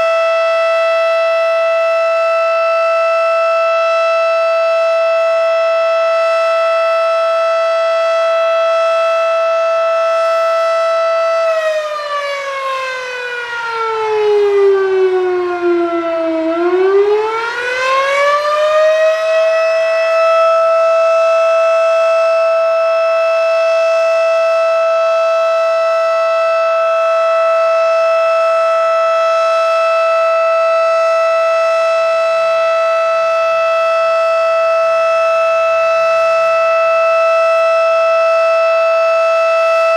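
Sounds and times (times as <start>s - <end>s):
mechanical warning siren: 0.0s - 39.9s.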